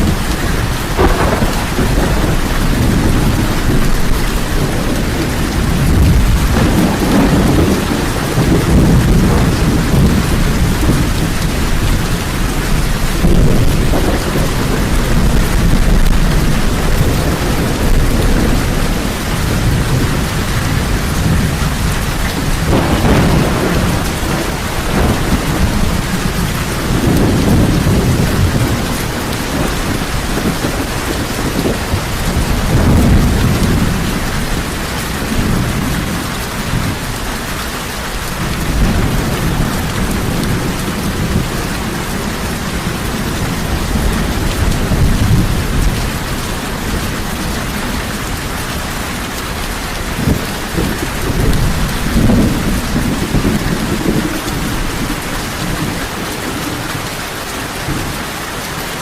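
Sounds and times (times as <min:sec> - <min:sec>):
heavy rain falling: 0:00.0 - 0:59.0
low thunder rumbling: 0:00.0 - 0:59.0.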